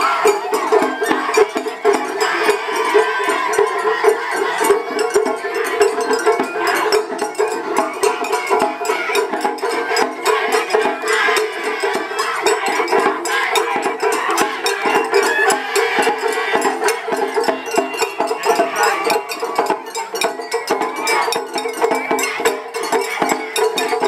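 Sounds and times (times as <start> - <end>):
taiko drums: 0.0 - 24.0.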